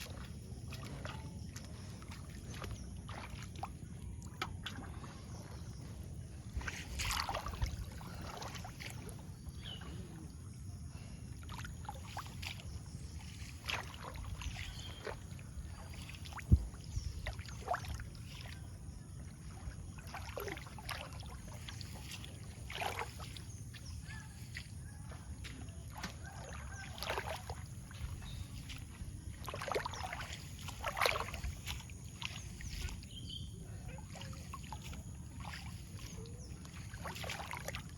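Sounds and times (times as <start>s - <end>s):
water splashing and sloshing: 0.0s - 37.9s.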